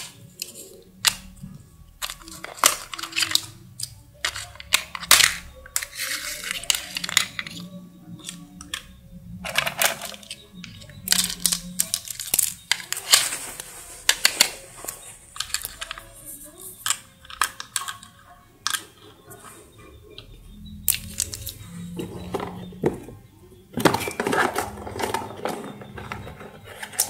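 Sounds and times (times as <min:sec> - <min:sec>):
plastic toys clattering on tiles: 0:00.0 - 0:27.0.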